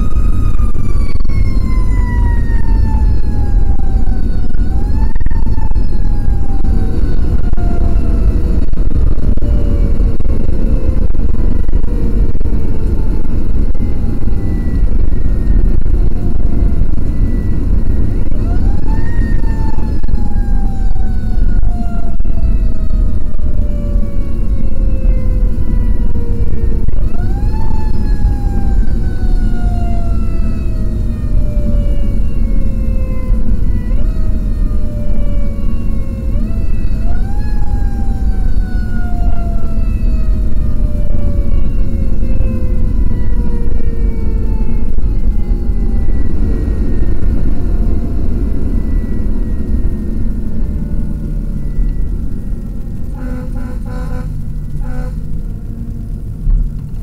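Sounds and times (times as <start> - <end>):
engine and road rumble: 0.0 - 57.0
fire engine siren: 0.0 - 57.0.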